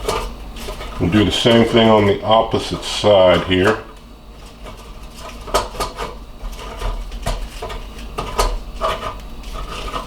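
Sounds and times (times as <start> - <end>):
kitchen items clinking and knocking: 0.0 - 10.0.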